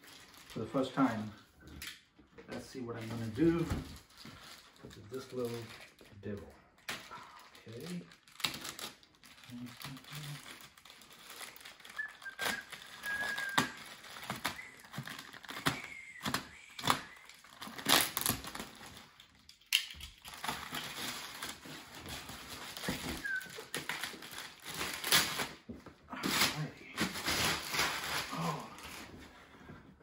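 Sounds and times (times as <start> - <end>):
packaging wrap crinkling: 0.0 - 1.3, 2.6 - 29.2.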